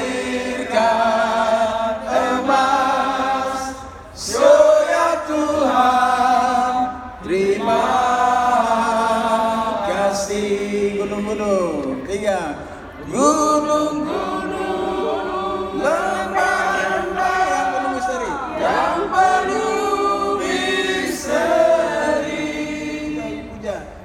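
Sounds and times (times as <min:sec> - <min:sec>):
group singing long held notes: 0:00.0 - 0:11.5, 0:12.8 - 0:23.7.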